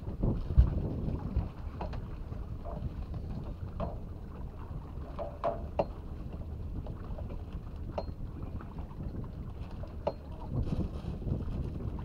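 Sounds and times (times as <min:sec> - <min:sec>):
motorboat engine rumble: 0:00.0 - 0:12.0.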